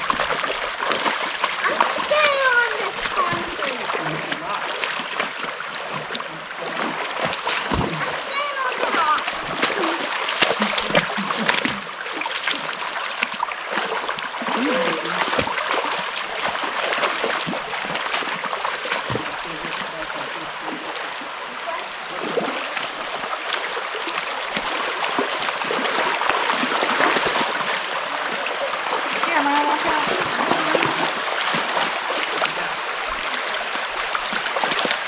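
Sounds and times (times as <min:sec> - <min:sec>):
small splashes: 0:00.0 - 0:35.0
water rushing over rocks: 0:00.0 - 0:35.0.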